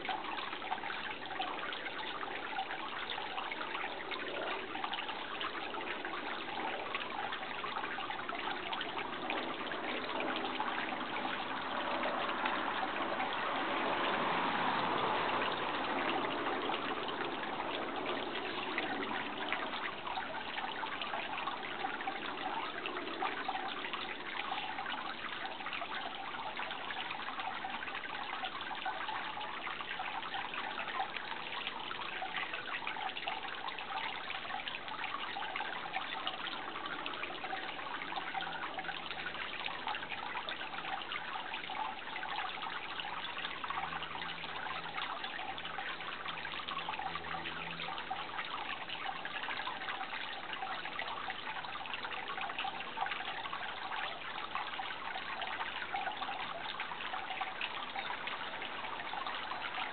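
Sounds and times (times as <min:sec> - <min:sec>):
babble of running water: 0:00.0 - 0:59.9.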